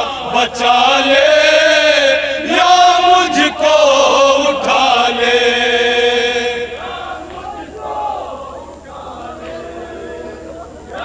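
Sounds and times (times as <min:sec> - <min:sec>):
group of voices reciting: 0:00.0 - 0:11.0
man singing long held note: 0:00.0 - 0:11.0.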